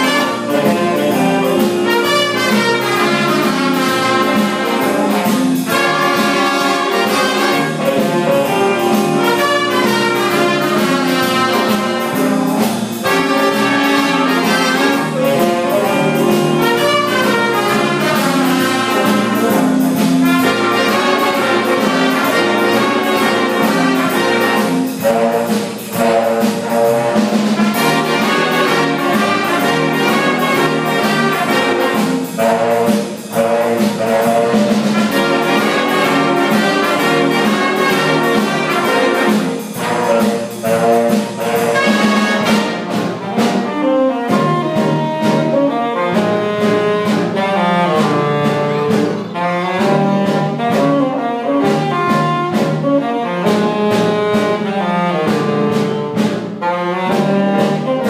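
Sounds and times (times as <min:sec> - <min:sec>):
brass-led jazz band: 0:00.0 - 0:58.0.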